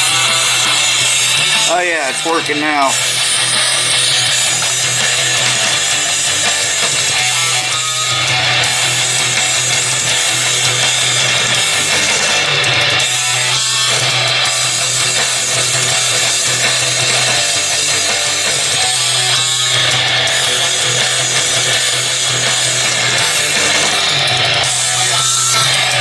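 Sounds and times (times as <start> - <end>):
guitar music through small speakers: 0.0 - 26.0.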